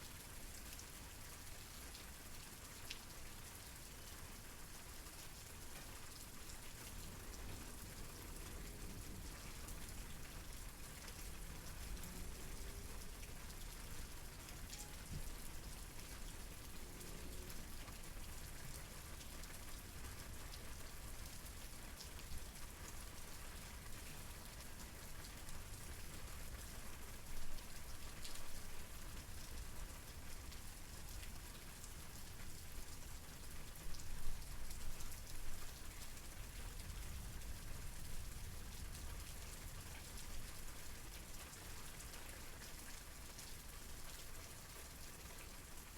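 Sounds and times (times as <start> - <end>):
raindrops pattering on a surface: 0.0 - 45.9
steady rainfall: 0.0 - 45.9.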